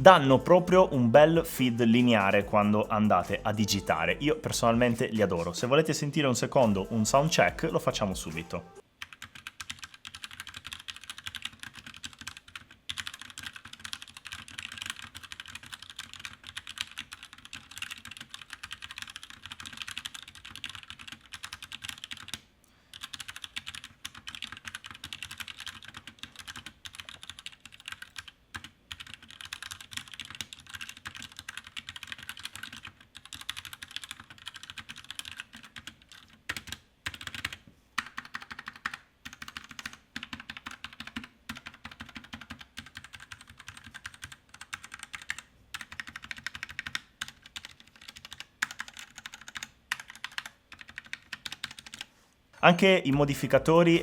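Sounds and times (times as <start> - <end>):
mechanical keyboard typing: 7.2 - 52.1.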